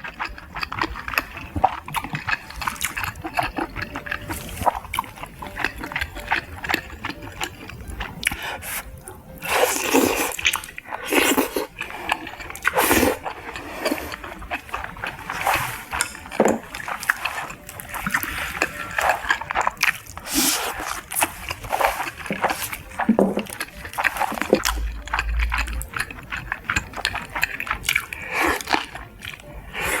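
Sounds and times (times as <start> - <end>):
chewing and mouth smacking: 0.0 - 30.0.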